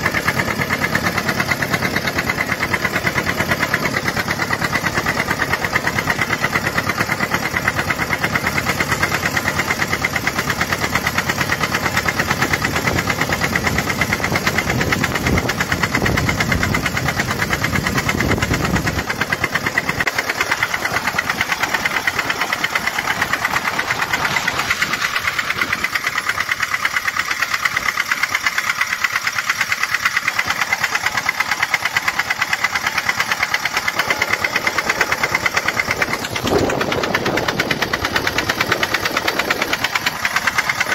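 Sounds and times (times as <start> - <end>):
tractor engine knocking: 0.0 - 40.9.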